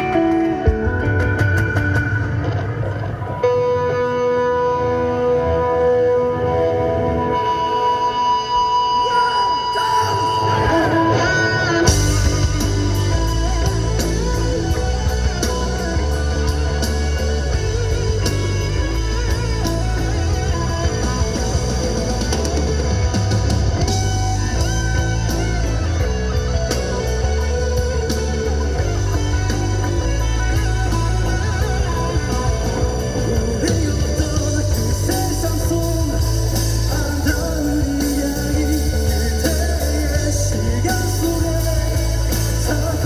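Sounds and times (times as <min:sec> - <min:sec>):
drums: 0:00.0 - 0:43.0
electric guitar melody: 0:00.0 - 0:43.0
live rock band playing: 0:00.0 - 0:43.0.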